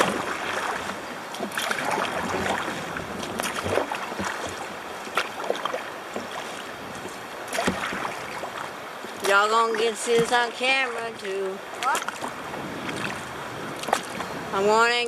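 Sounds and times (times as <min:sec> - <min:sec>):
paddle splashing in water: 0:00.0 - 0:15.0.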